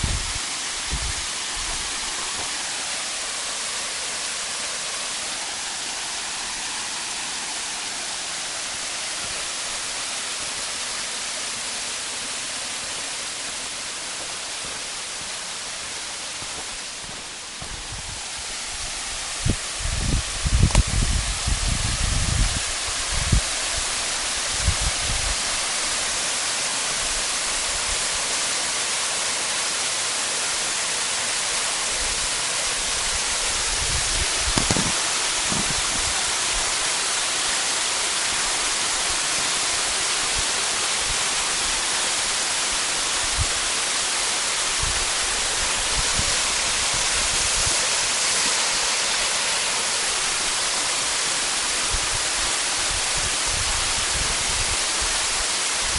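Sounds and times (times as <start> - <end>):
waterfall pouring: 0.0 - 55.9.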